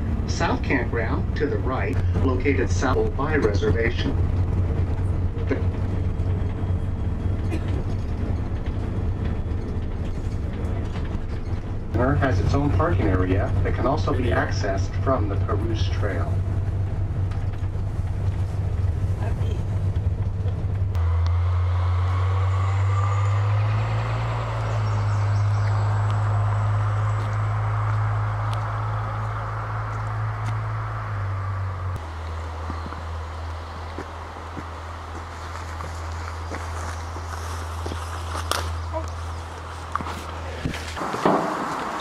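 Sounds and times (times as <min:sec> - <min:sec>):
bus engine and road noise: 0:00.0 - 0:42.0.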